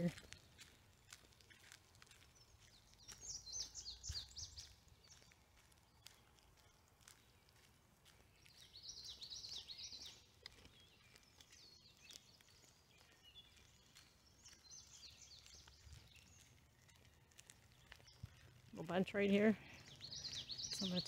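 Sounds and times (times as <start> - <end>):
faint songbirds singing: 0.0 - 21.0.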